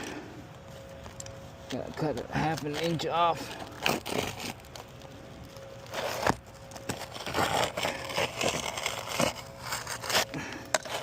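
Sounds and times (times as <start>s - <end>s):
roof shingle scraping and crackling: 0.0s - 11.0s.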